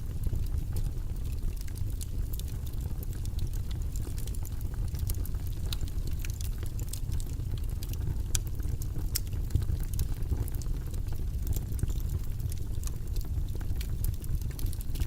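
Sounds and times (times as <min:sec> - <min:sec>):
faint crackles: 0:00.0 - 0:15.0.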